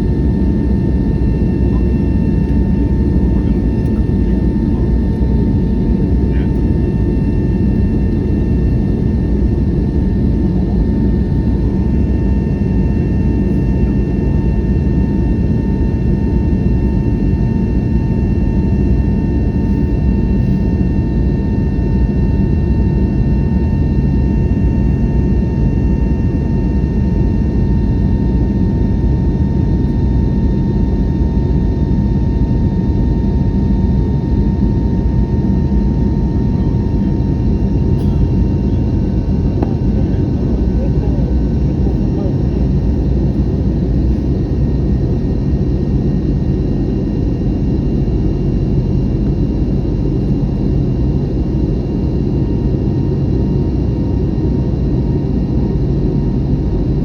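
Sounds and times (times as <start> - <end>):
faint whine tones: 0.0 - 27.4, 28.4 - 51.9
airliner engine and airflow drone: 0.0 - 57.0.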